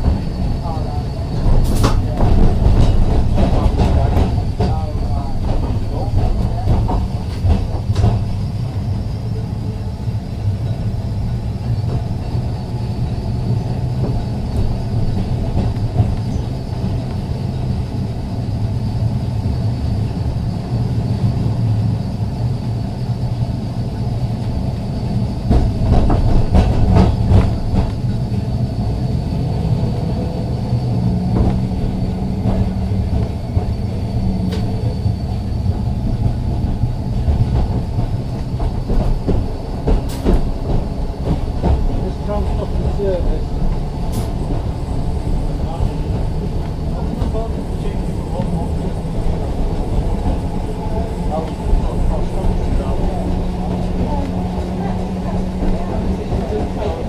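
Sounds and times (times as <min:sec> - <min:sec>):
electric tram humming: 0:00.0 - 0:57.0
tram wheels clacking: 0:00.0 - 0:57.0.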